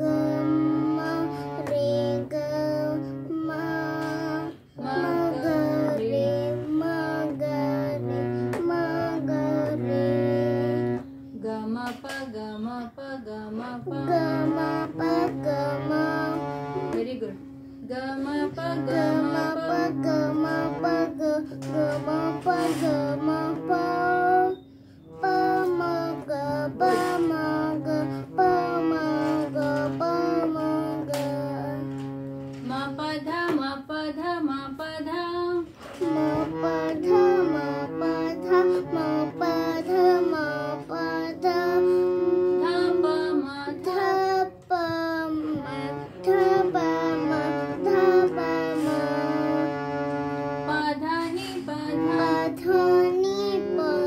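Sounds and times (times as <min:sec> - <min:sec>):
harmonium playing: 0:00.0 - 0:12.5, 0:13.2 - 0:54.0
child singing: 0:00.0 - 0:49.8, 0:50.7 - 0:54.0.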